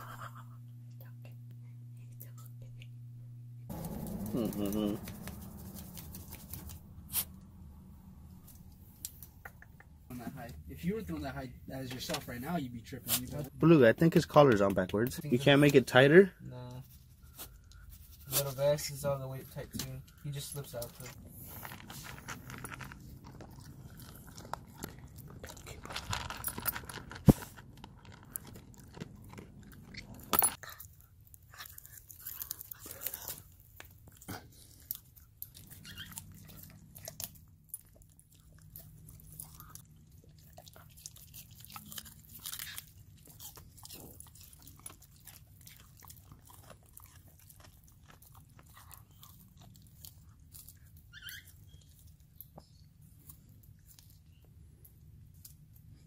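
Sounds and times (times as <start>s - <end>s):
dog crunching dry kibble: 3.7s - 7.5s, 8.1s - 56.0s.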